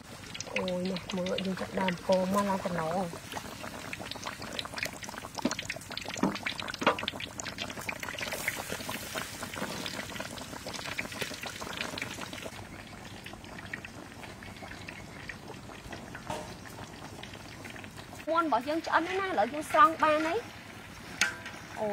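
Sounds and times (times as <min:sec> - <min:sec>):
chicken deep-frying in oil: 0:00.0 - 0:21.9.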